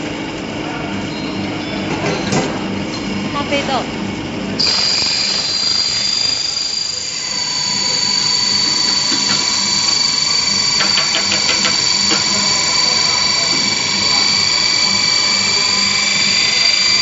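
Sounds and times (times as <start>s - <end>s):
grain mill high whine: 0.0s - 17.0s.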